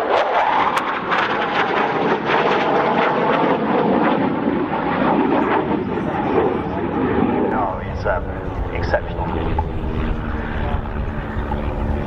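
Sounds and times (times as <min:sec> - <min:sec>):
fighter jet passing: 0:00.0 - 0:12.0.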